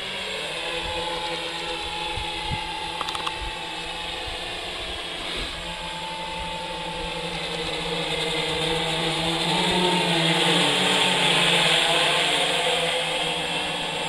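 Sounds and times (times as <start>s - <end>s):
quadcopter droning hum: 0.0s - 14.0s.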